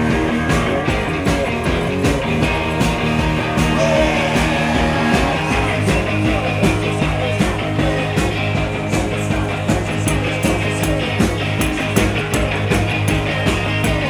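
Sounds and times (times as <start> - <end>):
rock and roll band playing: 0.0 - 14.0
strummed electric guitar: 0.0 - 14.0.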